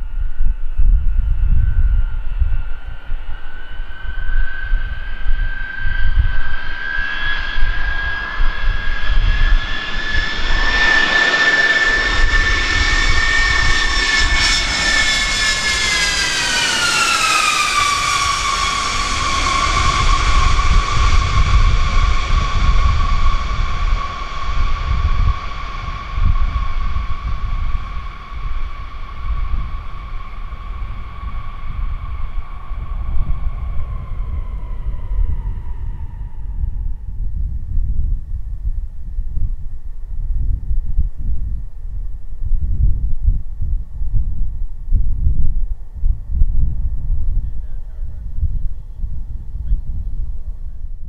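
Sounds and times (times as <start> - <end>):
jet engines whining overhead: 0.0 - 38.3, 45.7 - 50.8
low rumble: 0.0 - 51.0.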